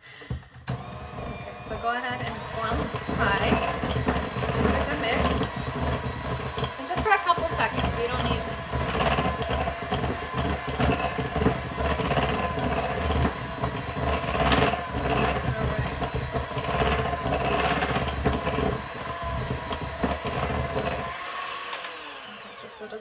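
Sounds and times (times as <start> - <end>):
electric hand mixer whining: 0.0 - 23.0.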